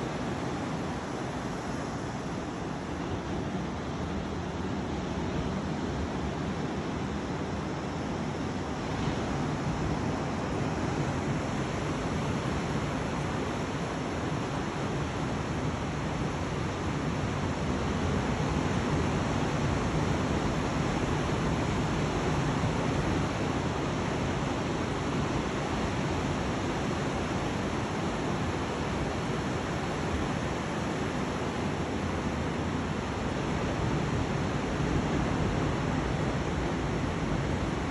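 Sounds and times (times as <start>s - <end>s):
ocean surf rushing: 0.0s - 37.9s.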